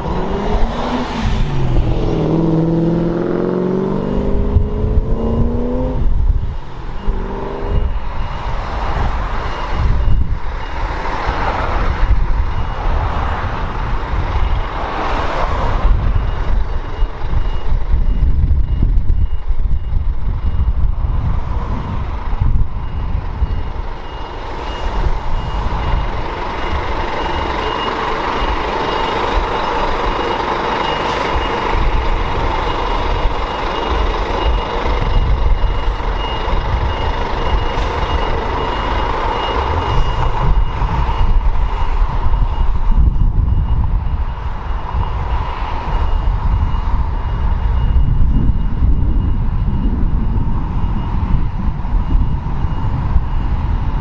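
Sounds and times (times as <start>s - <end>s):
heavy engine rumble: 0.0s - 54.0s
truck reversing alarm beeping: 0.0s - 54.0s.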